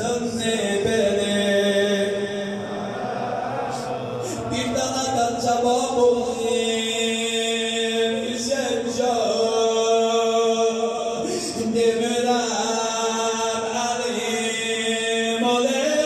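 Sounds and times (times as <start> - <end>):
man chanting into a microphone: 0.0 - 16.0.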